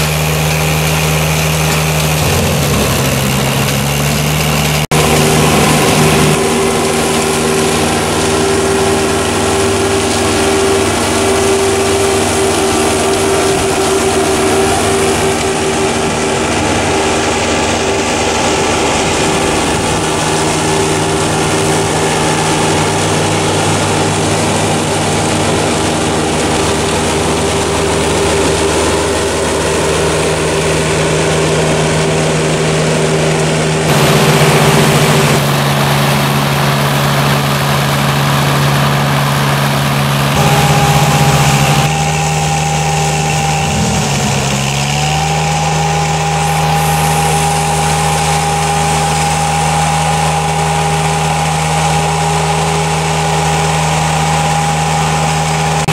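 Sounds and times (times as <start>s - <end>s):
mower engine and flail running: 0.0s - 55.9s.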